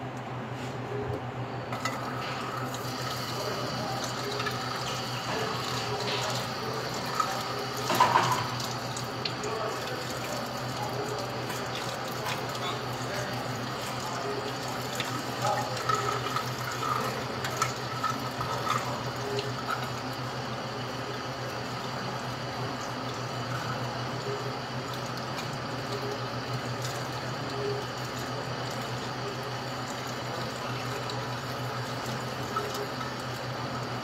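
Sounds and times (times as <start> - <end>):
tap water running into sink: 1.8 - 34.0.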